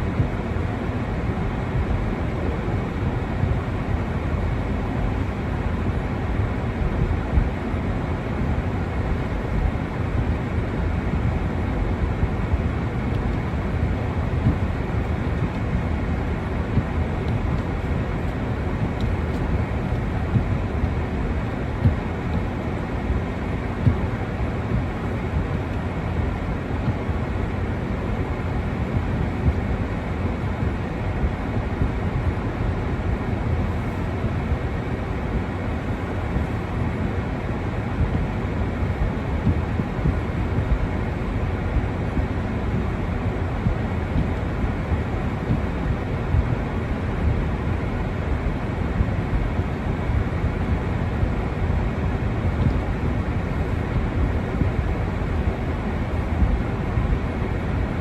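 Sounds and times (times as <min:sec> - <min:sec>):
low rumbling noise: 0:00.0 - 0:58.0.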